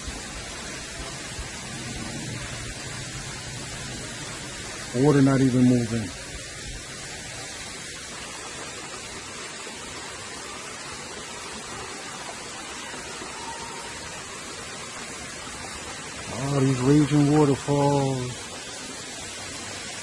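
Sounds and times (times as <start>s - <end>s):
trickle of water over rocks: 0.0s - 20.0s.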